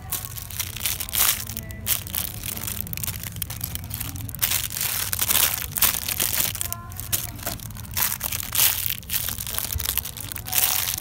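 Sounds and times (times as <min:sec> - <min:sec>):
low steady hum: 0:00.0 - 0:11.0
plastic wrapping crinkling: 0:00.0 - 0:11.0.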